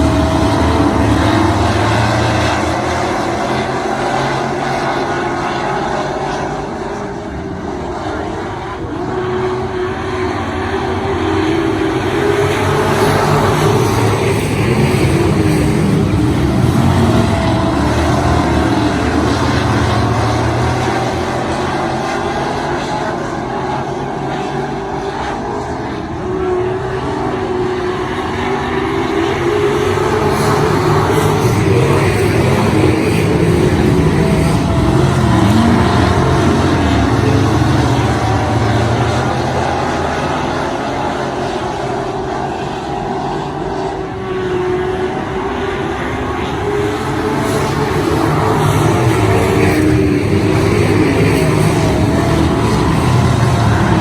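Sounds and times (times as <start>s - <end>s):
stock car engine at speed: 0.0s - 54.0s.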